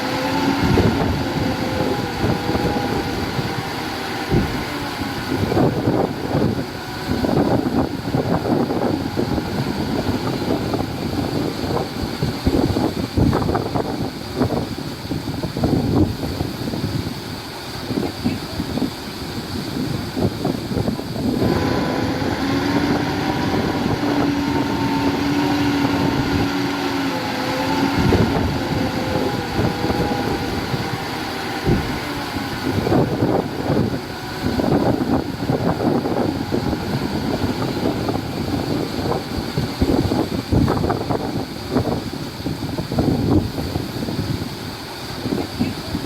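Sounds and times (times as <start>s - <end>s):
construction machine engine under load: 0.0s - 46.0s
wind on microphone: 0.0s - 46.0s.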